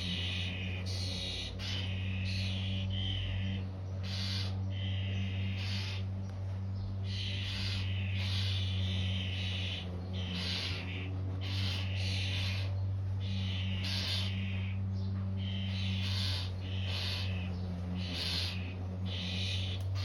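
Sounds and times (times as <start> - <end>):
nestlings making harsh hissing calls: 0.0 - 6.1, 7.0 - 14.8, 15.4 - 20.0
steady low hum: 0.0 - 20.0.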